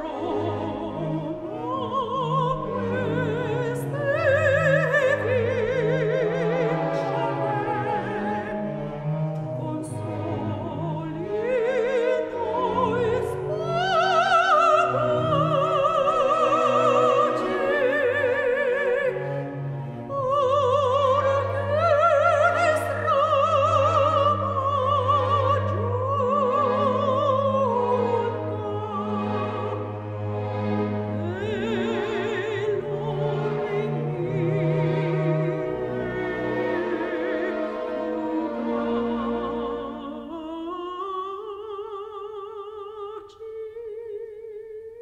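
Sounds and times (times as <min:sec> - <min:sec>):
orchestral accompaniment: 0:00.0 - 0:41.7
operatic soprano singing: 0:00.0 - 0:45.0.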